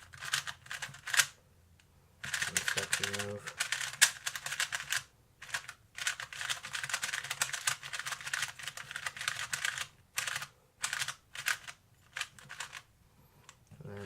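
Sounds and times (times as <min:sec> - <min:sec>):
puzzle cube clicking: 0:00.1 - 0:01.4, 0:02.2 - 0:12.8.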